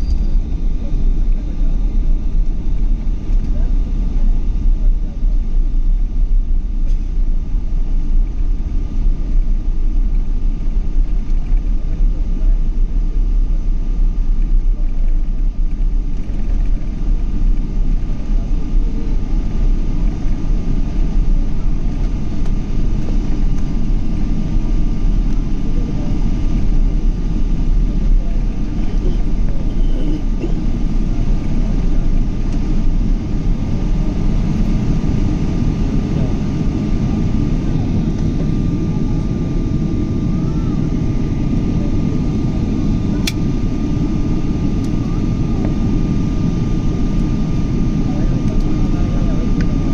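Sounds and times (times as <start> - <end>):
jet engine and airflow rumble: 0.0 - 49.9
thin steady whine: 0.0 - 49.9.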